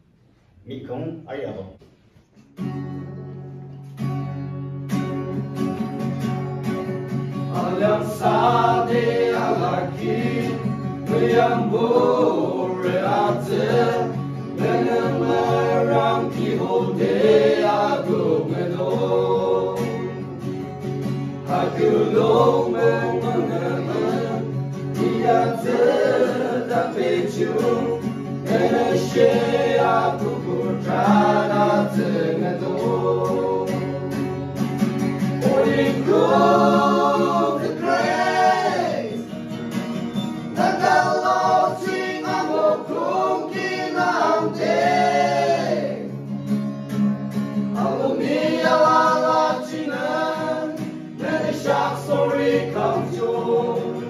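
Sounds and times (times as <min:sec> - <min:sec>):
acoustic guitar: 0:00.0 - 0:00.8, 0:01.5 - 0:54.0
group of people singing: 0:07.3 - 0:46.4, 0:47.6 - 0:54.0.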